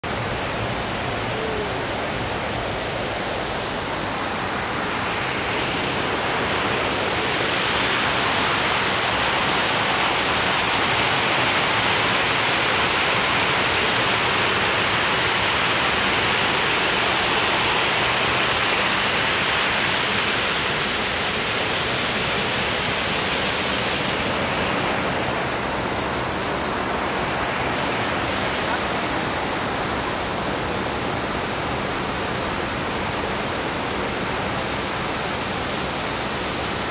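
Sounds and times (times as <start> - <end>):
water rushing down concrete channel: 0.0 - 30.4.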